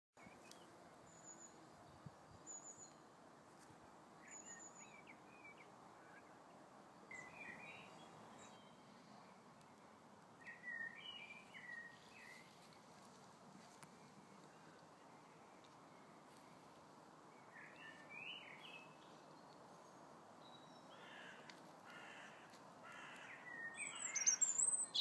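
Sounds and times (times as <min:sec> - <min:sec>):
songbirds trilling and chirping: 0:00.2 - 0:25.0
steady outdoor hiss: 0:00.2 - 0:25.0.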